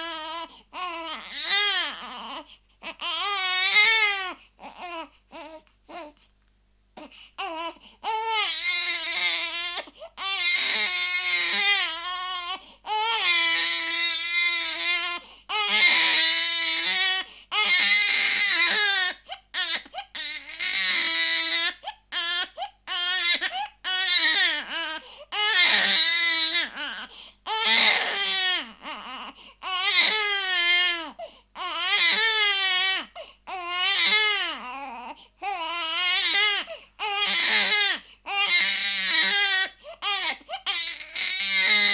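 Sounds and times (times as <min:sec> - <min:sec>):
infant crying: 0:00.0 - 0:06.2, 0:07.0 - 0:41.9.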